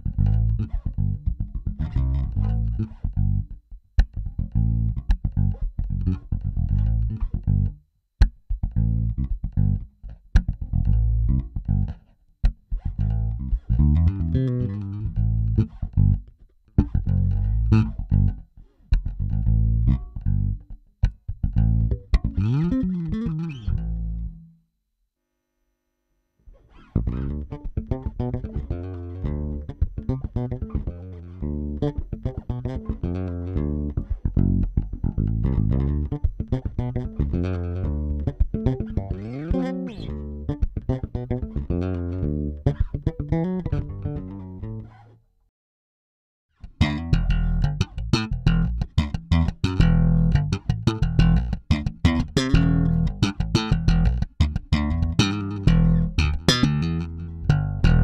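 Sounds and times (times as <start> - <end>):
bass guitar plucked notes: 0.0 - 24.6, 26.7 - 45.1, 46.6 - 58.0.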